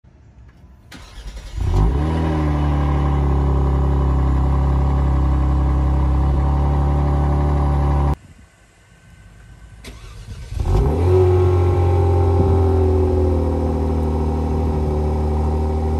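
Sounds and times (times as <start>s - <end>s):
car engine starting and idling: 0.4s - 8.2s, 9.1s - 15.9s.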